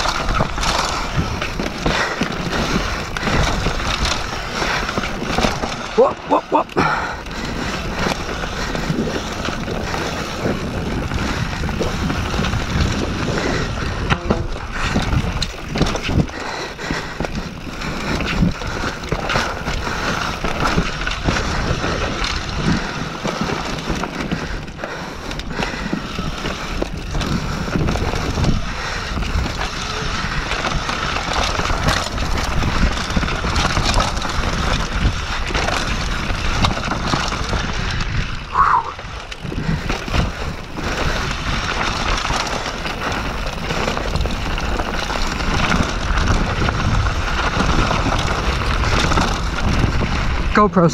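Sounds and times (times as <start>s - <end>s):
bike rattling and knocking: 0.0s - 50.9s
tyres rolling over dirt and stones: 0.0s - 50.9s
wind rushing over microphone: 0.0s - 50.9s.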